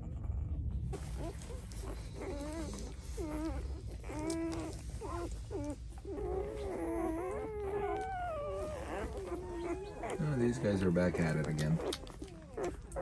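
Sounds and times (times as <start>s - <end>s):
low steady rumble: 0.0s - 13.0s
puppies squeaking and whining: 0.0s - 13.0s.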